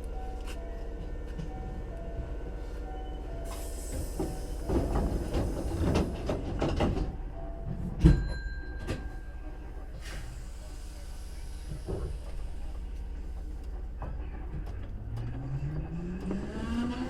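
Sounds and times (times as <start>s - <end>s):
train low hum: 0.0s - 17.0s.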